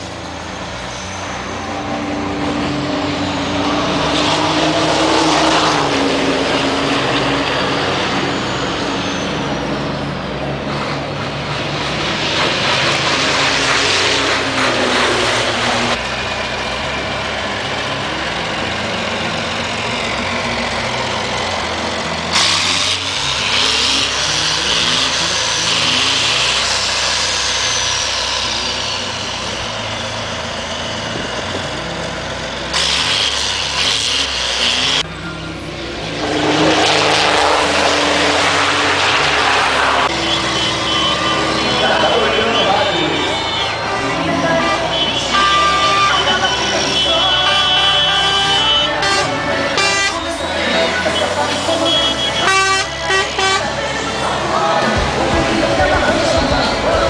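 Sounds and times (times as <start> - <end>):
race truck engines running: 0.0 - 57.0.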